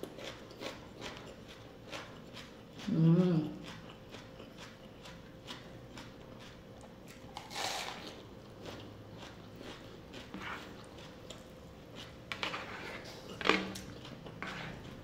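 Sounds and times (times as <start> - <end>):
crunchy chewing of raw onion: 0.0 - 15.0.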